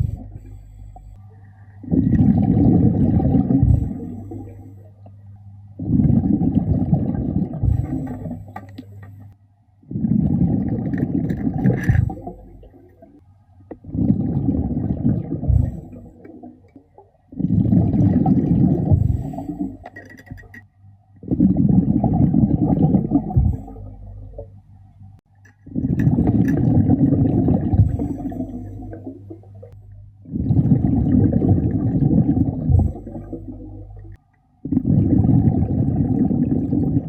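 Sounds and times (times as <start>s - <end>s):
diver exhaling bubbles underwater: 0.0s - 0.6s, 1.8s - 5.0s, 5.8s - 8.9s, 9.9s - 16.6s, 17.3s - 20.1s, 21.2s - 24.5s, 25.7s - 37.0s.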